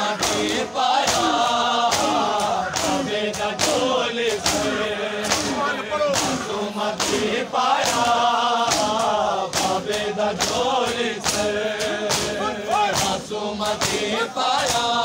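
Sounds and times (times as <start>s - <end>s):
hands slapping bare chests: 0.0s - 15.0s
men chanting a lament: 0.0s - 15.0s.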